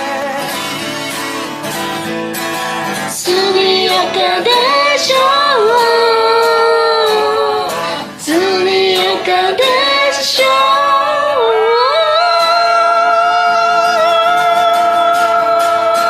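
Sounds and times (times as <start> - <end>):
karaoke backing track: 0.0 - 16.0
woman singing: 3.1 - 16.0.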